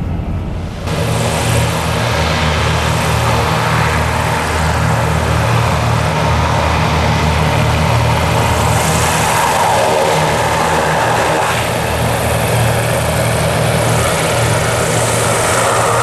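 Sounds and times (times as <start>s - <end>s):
hovercraft engine drone: 0.0s - 16.0s.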